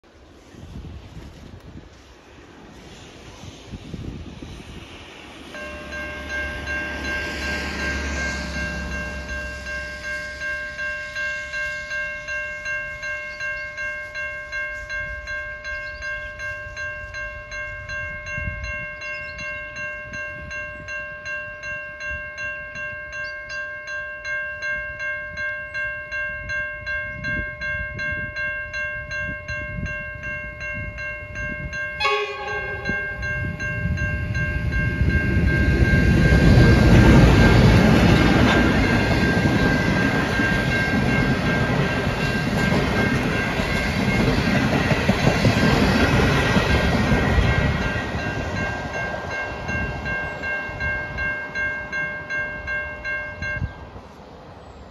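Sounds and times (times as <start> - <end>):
passenger train rumbling and clattering: 0.0 - 54.9
level crossing bells ringing: 5.6 - 44.9, 46.5 - 53.8.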